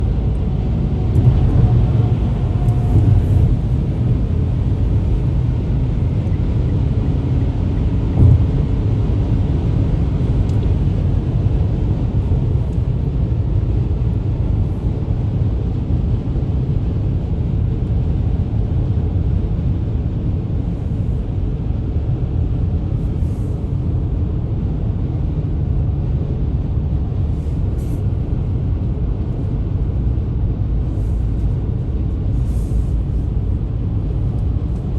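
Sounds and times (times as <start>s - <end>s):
road and engine noise in car: 0.0s - 34.9s.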